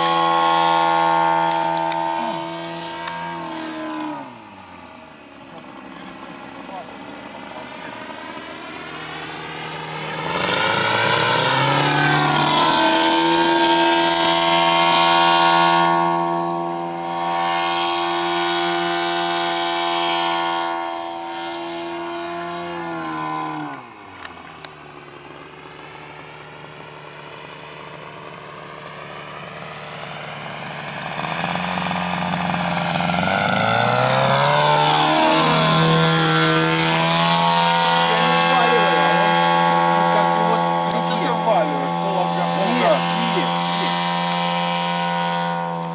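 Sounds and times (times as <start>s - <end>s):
model plane engine passing: 0.0s - 45.9s.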